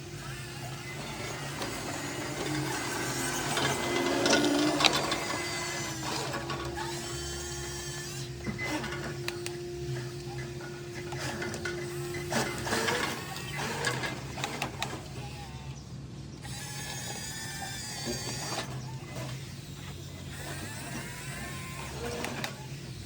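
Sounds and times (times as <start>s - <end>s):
toy electric motors whining: 0.0s - 23.0s.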